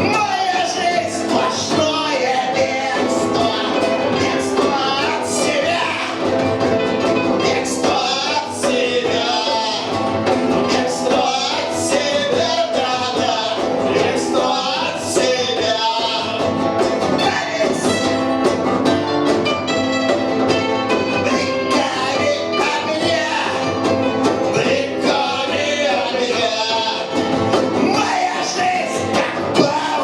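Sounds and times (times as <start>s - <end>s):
man singing: 0.0s - 18.3s, 20.5s - 30.0s
punk band playing live: 0.0s - 30.0s.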